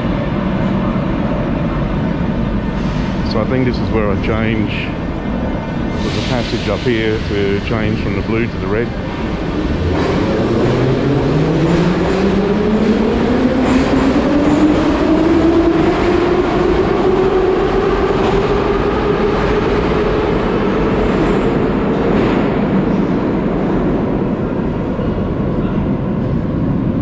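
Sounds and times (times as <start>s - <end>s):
rumble of running train: 0.0s - 27.0s.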